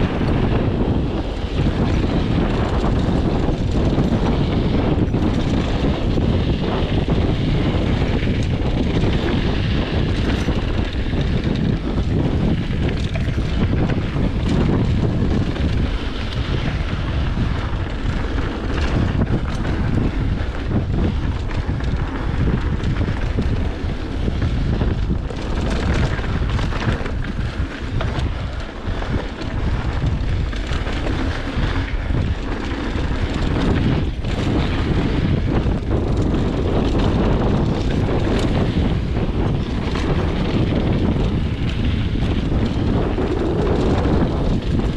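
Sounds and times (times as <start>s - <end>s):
bike clicks and rattles: 0.0s - 44.9s
tyre noise on dirt: 0.0s - 44.9s
wind buffeting microphone: 0.0s - 44.9s.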